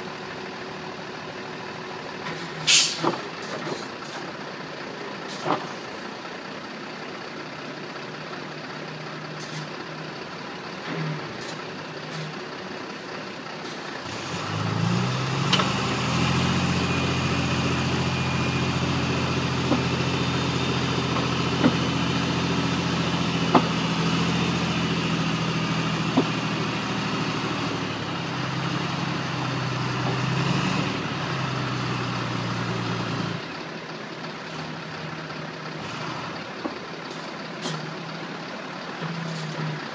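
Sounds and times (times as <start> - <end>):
diesel truck engine idling and revving: 0.0 - 39.9.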